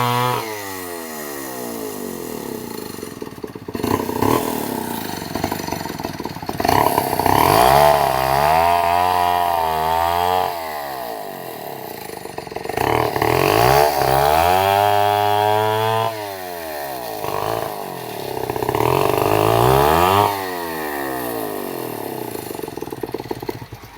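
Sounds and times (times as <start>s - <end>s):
chainsaw revving: 0.0s - 23.9s.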